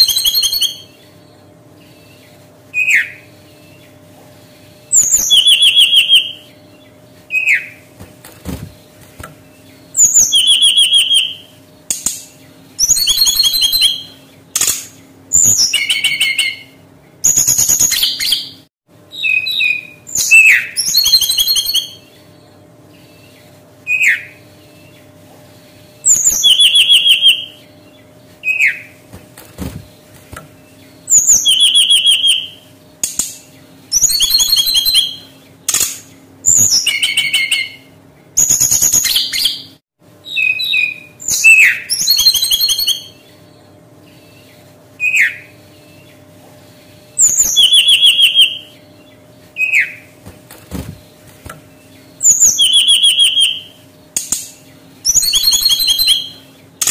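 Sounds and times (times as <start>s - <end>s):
bird singing: 0.0s - 29.0s, 29.6s - 46.3s, 46.9s - 56.9s
faint steady hum: 0.0s - 56.9s.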